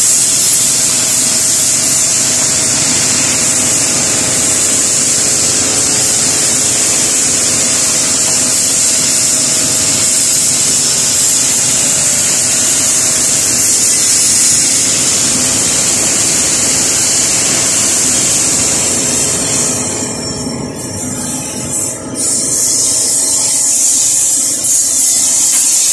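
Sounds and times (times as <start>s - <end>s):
plasma cutter hissing: 0.0s - 25.9s.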